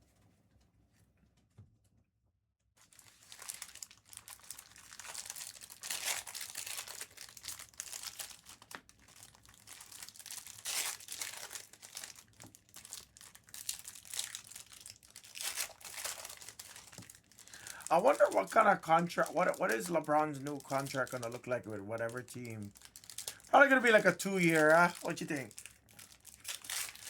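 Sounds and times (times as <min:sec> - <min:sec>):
wrappers tearing and crinkling: 0:02.8 - 0:27.0.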